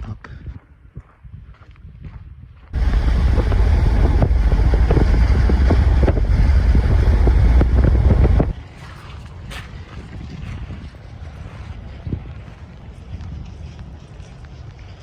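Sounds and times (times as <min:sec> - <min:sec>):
wind buffeting microphone: 0:00.9 - 0:15.0.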